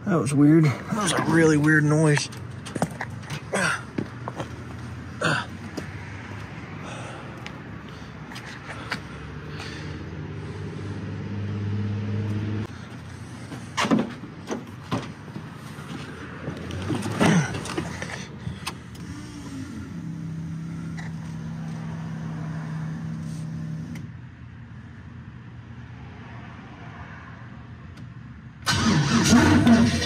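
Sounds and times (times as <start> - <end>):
car mechanical hum: 0.0 - 26.0.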